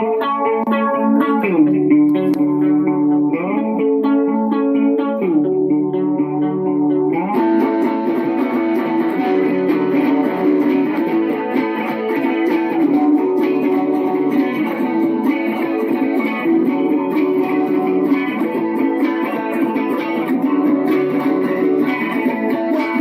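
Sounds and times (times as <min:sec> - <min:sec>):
band playing guitar-led song: 0:00.0 - 0:23.0.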